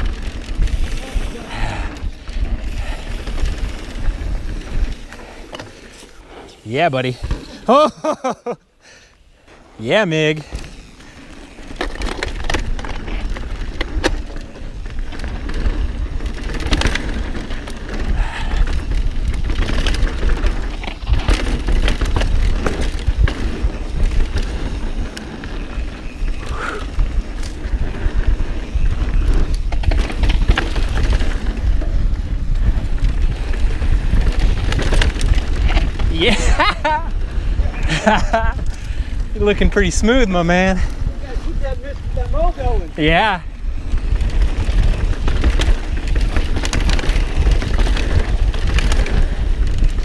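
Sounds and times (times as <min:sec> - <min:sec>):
wind rumble on microphone: 0:00.0 - 0:05.6, 0:10.4 - 0:50.0
bike rattling clicks and knocks: 0:00.0 - 0:06.3, 0:10.2 - 0:50.0
bike tyres on dirt: 0:00.0 - 0:50.0.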